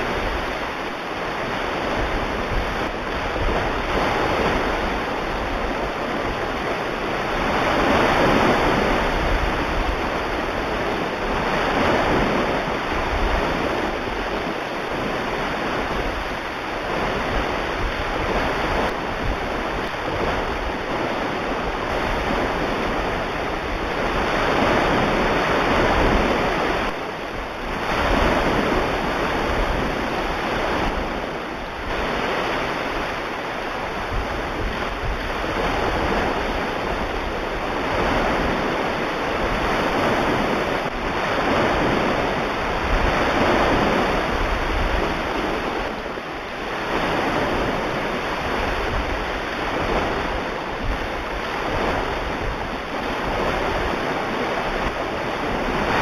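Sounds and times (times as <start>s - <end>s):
ocean waves: 0.0s - 56.0s.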